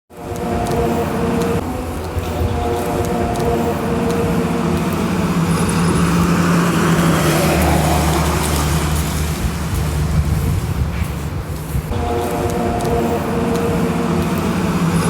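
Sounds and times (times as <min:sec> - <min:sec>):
traffic rumble with low hum: 0:00.1 - 0:15.0.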